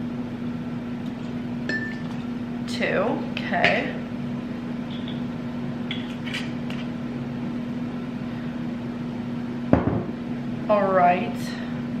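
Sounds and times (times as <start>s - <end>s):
low kitchen room hum: 0.0s - 12.0s.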